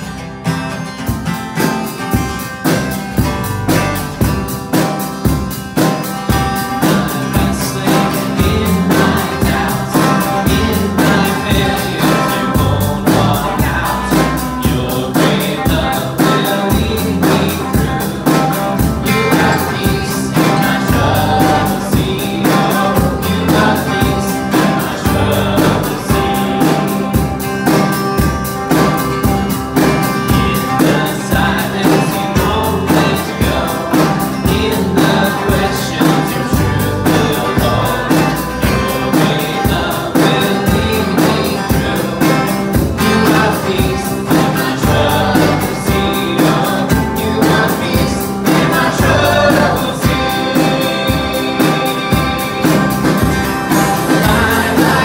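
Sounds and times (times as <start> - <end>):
band playing worship song: 0.0 - 55.0
backing singers: 3.4 - 55.0
woman singing lead: 6.5 - 27.7, 30.2 - 55.0.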